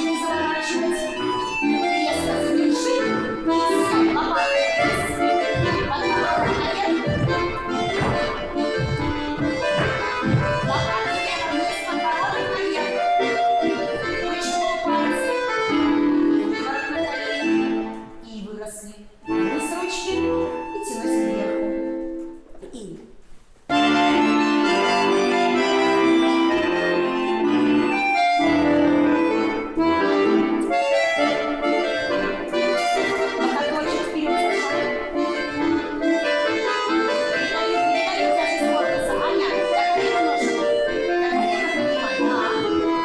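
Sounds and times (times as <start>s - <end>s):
accordion playing dance tune: 0.0s - 22.2s, 23.7s - 43.0s.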